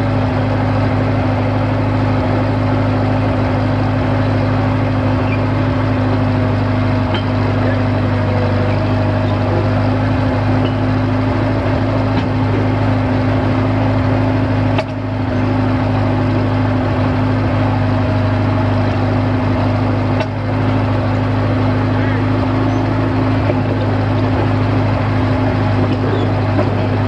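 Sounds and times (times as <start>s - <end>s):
drill rig engine running: 0.0s - 27.0s.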